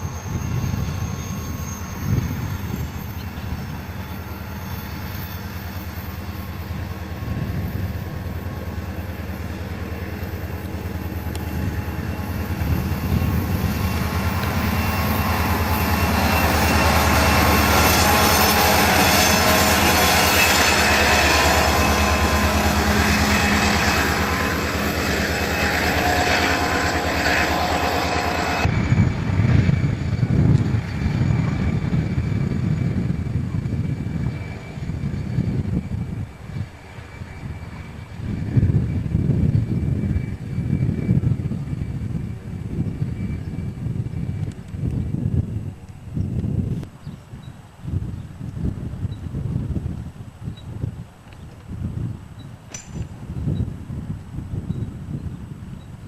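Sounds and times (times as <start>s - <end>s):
locomotive engine rumble: 0.0s - 47.0s
train wheel noise: 0.0s - 47.8s
rough gusty rumble: 0.0s - 56.0s.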